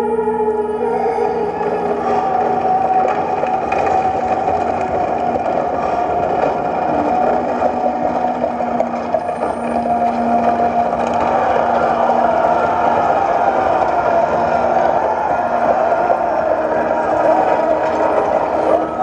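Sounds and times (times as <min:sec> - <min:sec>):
ambient drone over loudspeakers: 0:00.0 - 0:19.0.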